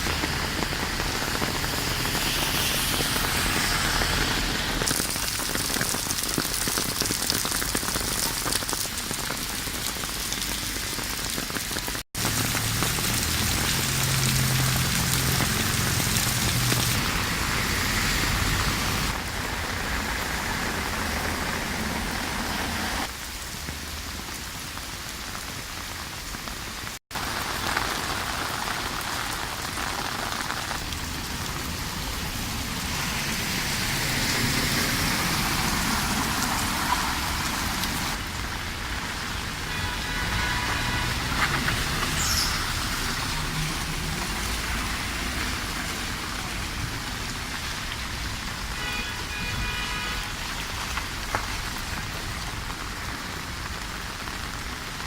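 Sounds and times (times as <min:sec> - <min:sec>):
rain hissing on hard surfaces: 0:00.0 - 0:55.0.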